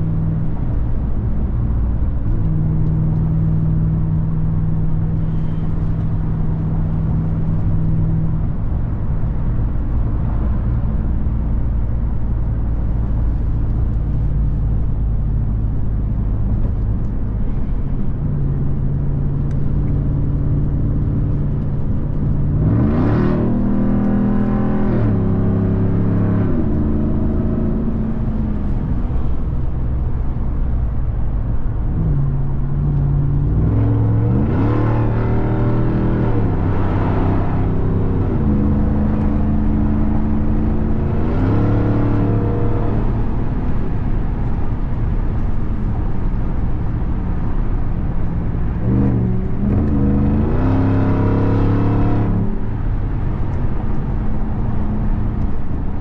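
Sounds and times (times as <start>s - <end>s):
truck engine accelerating and upshifting: 0.0s - 56.0s.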